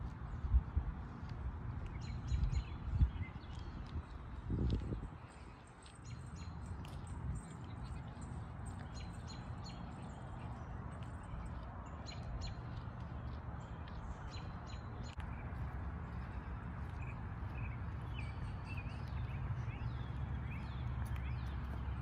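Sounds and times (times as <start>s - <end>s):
small birds chirping: 1.7s - 22.0s.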